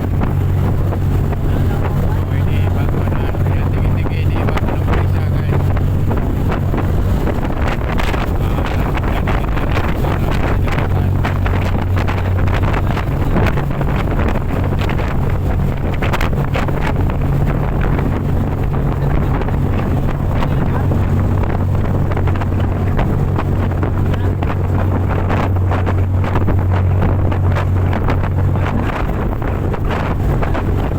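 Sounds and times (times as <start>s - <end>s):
boat engine droning: 0.0s - 30.9s
wind buffeting microphone: 0.0s - 30.9s.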